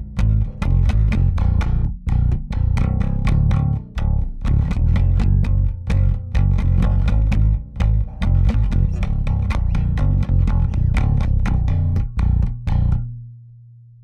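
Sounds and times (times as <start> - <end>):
electric bass plucked notes: 0.0 - 14.0.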